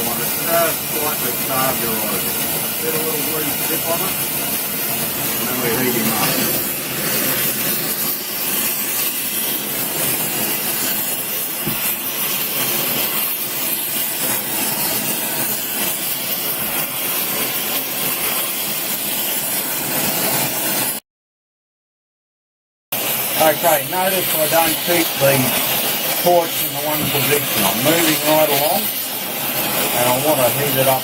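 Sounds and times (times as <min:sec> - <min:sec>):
gas torch flame hissing: 0:00.0 - 0:21.0, 0:23.0 - 0:31.0.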